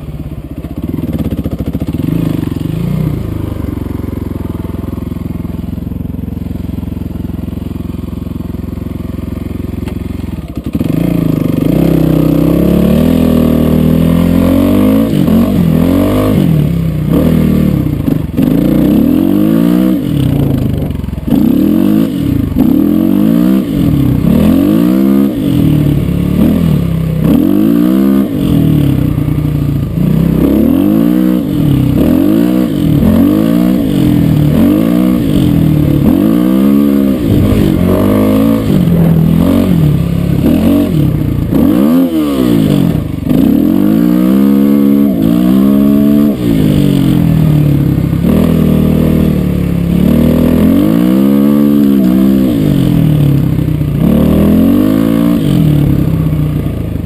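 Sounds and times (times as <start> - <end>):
dirt bike engine revving: 0.7 - 57.0.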